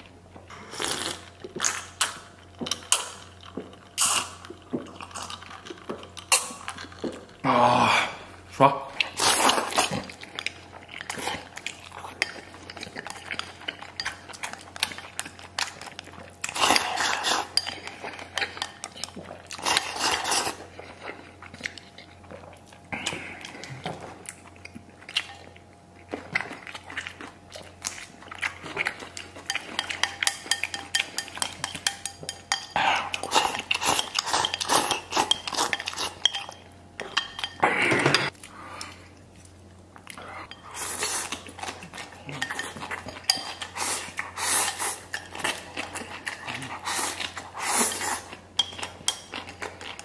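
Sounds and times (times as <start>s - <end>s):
close-up eating sounds: 0.0s - 50.0s.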